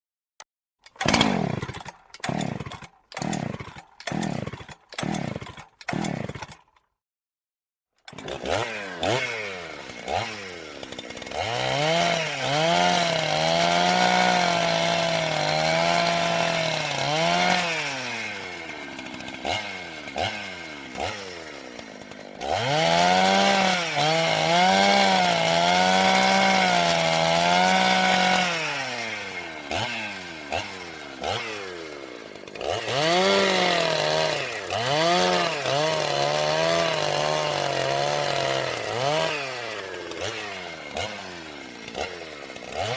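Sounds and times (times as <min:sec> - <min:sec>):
chainsaw engine bursts: 0:00.9 - 0:06.7, 0:08.0 - 0:42.9
chainsaw revving high: 0:00.9 - 0:06.7, 0:08.0 - 0:42.9
chainsaw idling: 0:00.9 - 0:06.8, 0:08.0 - 0:42.9.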